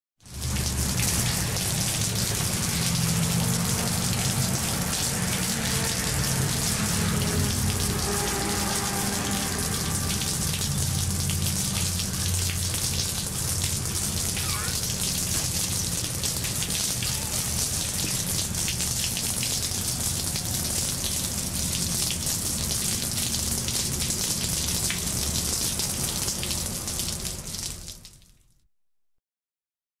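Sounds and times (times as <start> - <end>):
rain falling on pavement: 0.2 - 28.4
passing traffic rumble: 0.3 - 27.5.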